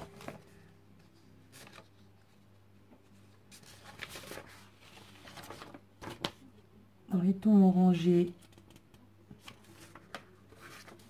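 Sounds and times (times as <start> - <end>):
paper sheets rustling: 0.0 - 6.4, 8.4 - 11.0
low steady hum: 0.0 - 11.0.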